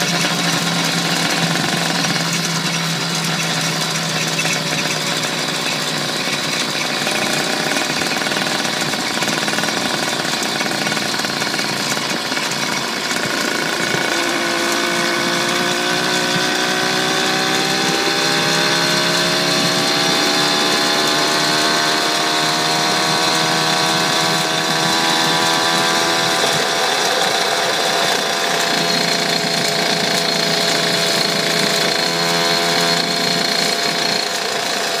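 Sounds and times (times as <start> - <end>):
high whine: 0.0 - 35.0
motorised bicycle engine running: 0.0 - 35.0.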